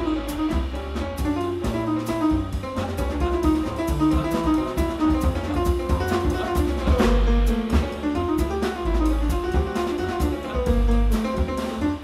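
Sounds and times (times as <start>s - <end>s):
drums with cymbal strokes: 0.0s - 12.0s
piano notes: 0.0s - 12.0s
plucked double bass: 0.0s - 12.0s.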